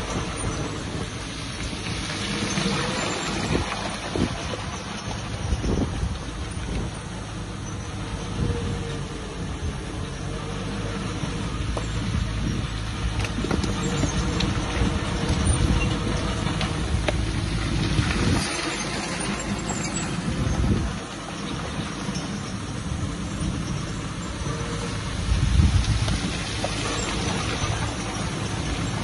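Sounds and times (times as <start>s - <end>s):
diesel engine under load: 0.0s - 29.0s.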